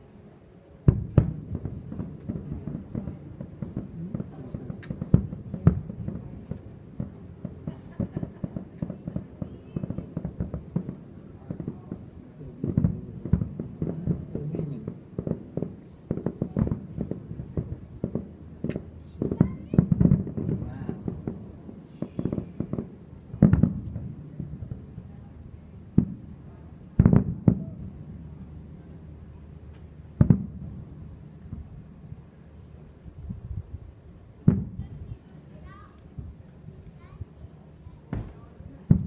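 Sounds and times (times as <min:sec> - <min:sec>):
fireworks booming and crackling: 0:00.8 - 0:39.0.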